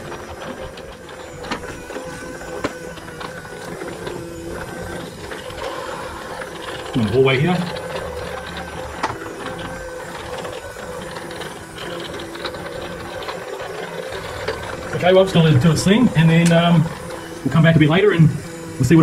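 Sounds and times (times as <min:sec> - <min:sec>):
robot vacuum cleaner whirring: 0:00.0 - 0:19.0.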